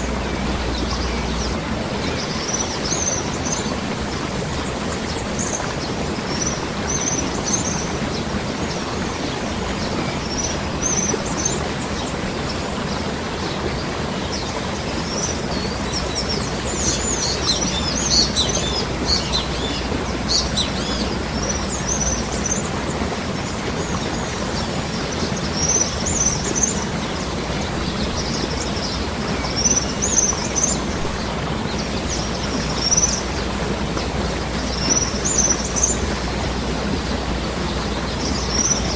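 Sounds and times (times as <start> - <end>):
birds chirping: 0.0 - 38.9
waterfall rushing: 0.0 - 38.9.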